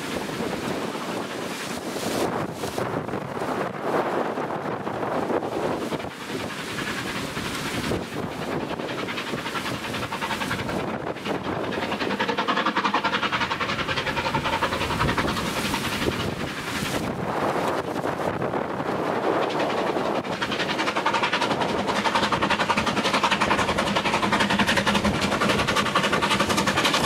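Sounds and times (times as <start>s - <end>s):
steam train wheels clattering: 0.0s - 27.0s.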